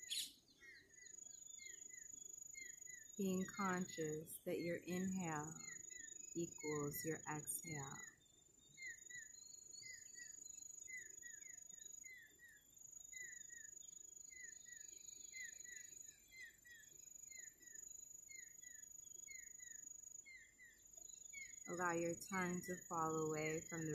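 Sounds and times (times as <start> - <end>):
insect high-pitched buzz: 0.0 - 23.9.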